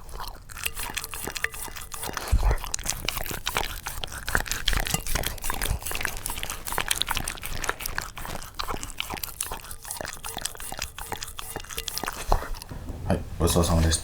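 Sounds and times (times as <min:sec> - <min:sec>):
dog chewing and crunching food: 0:00.0 - 0:13.9.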